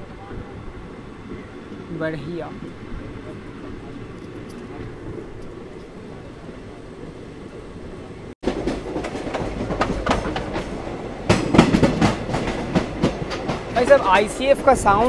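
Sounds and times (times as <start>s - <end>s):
train coach rumbling: 0.0s - 15.0s
wheels clattering over rail joints: 0.0s - 15.0s.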